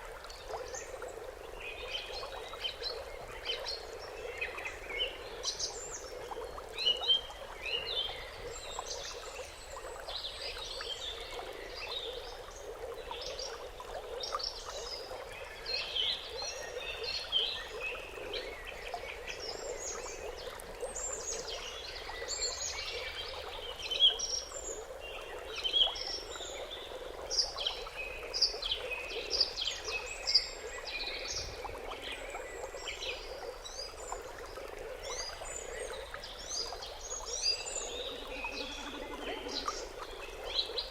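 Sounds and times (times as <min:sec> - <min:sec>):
small birds chirping: 0:01.9 - 0:40.9.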